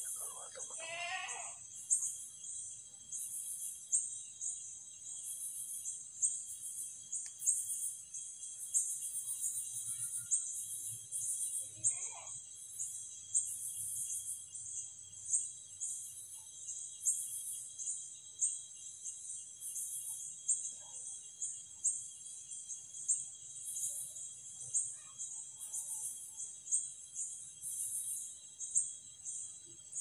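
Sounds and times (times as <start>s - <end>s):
high insect trill: 0.0s - 30.0s
insects pulsing chirps: 0.0s - 30.0s.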